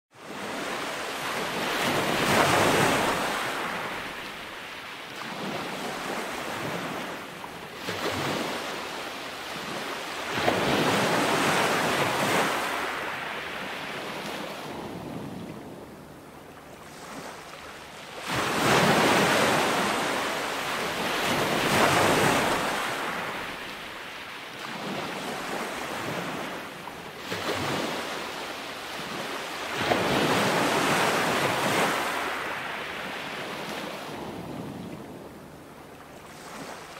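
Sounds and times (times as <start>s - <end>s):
ocean waves on shore: 0.1s - 36.9s.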